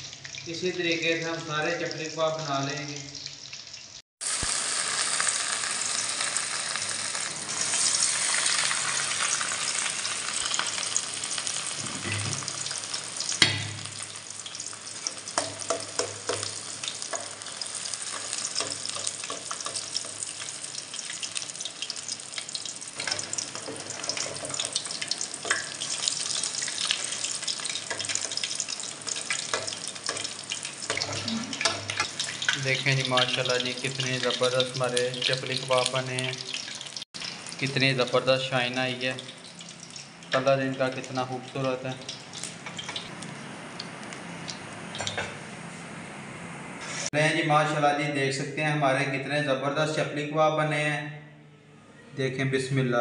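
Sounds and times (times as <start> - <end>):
meat sizzling in hot oil: 0.0 - 43.2.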